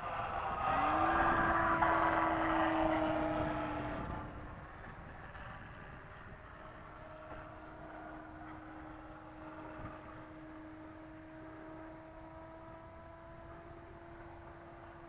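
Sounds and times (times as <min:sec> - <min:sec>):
model airplane droning hum: 0:00.0 - 0:15.0
wind rumble on microphone: 0:00.0 - 0:15.0.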